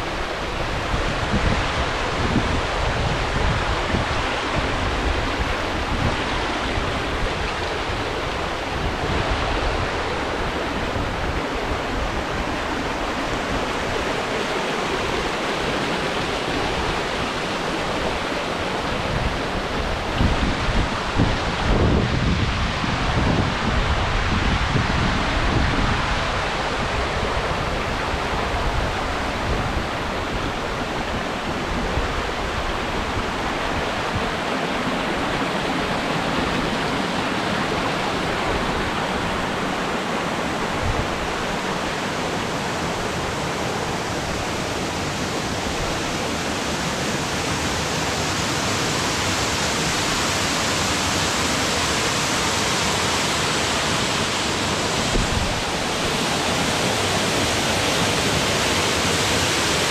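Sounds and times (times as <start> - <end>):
waterfall rushing: 0.0 - 59.9
wind on microphone: 0.0 - 59.9.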